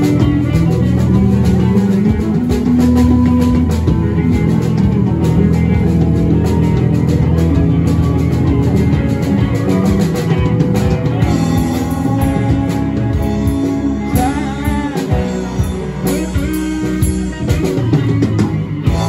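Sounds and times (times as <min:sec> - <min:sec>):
bending electric guitar lead: 0:00.0 - 0:19.0
live rock band playing: 0:00.0 - 0:19.0.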